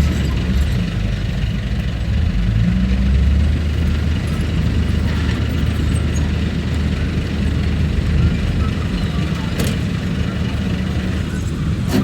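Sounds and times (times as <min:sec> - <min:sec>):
bulldozer diesel engine droning: 0:00.0 - 0:12.0.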